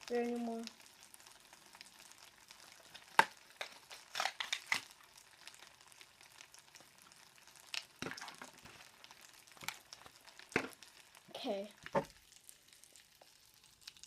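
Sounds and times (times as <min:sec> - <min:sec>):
popping candy crackling in water: 0:00.0 - 0:14.0.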